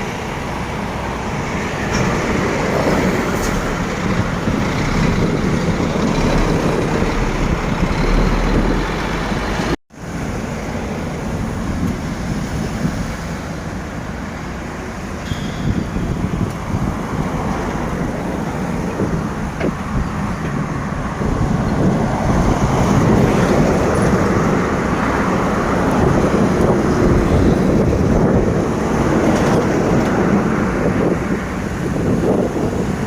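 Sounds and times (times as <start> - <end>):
road vehicle driving noise: 0.0 - 33.0
wind buffeting microphone: 0.0 - 33.0.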